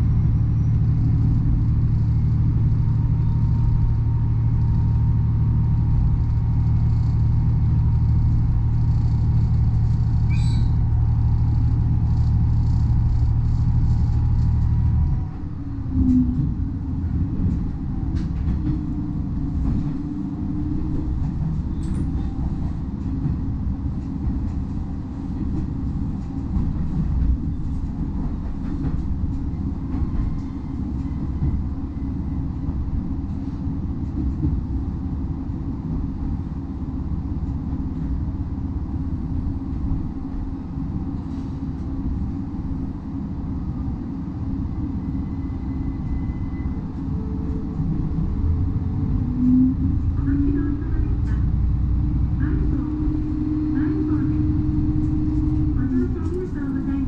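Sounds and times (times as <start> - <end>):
railcar engine and wheels rumbling: 0.0 - 57.0.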